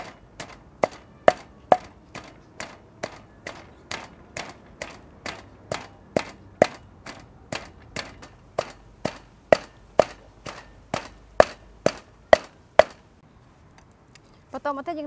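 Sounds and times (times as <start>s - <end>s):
wooden pestle pounding in mortar: 0.0s - 13.0s.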